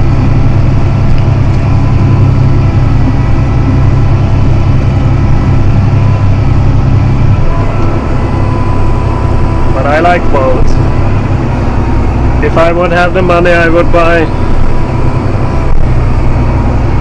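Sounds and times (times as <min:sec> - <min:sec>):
faint steady whine: 0:00.0 - 0:17.0
tractor diesel engine drone: 0:00.0 - 0:17.0.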